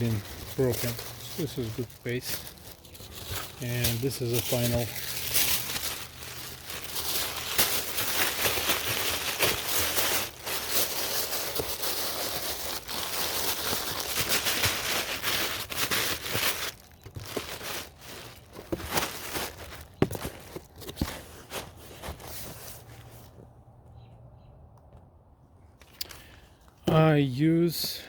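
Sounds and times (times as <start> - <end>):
packing paper crinkling: 0.0 - 23.1.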